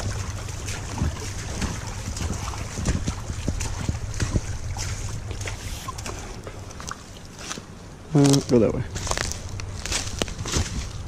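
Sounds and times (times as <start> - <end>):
footsteps crunching on a trail: 0.0 - 11.0
wind buffeting microphone: 0.0 - 11.0.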